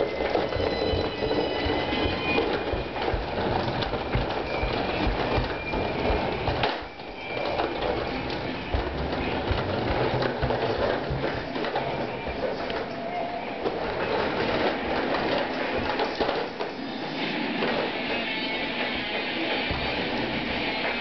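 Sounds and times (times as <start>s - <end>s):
toy wheels rumbling on wooden floor: 0.0s - 13.0s, 13.6s - 21.0s.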